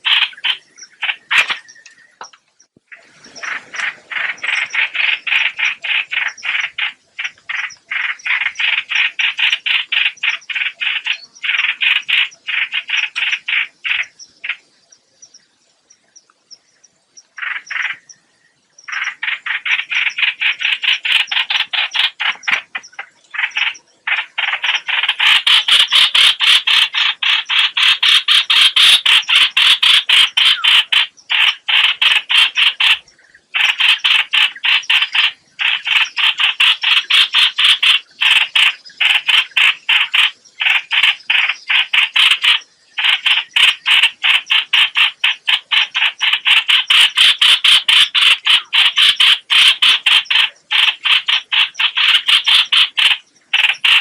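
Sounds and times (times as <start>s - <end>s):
bird call harsh repeated notes: 0.0s - 14.7s, 17.4s - 18.2s, 18.8s - 54.0s.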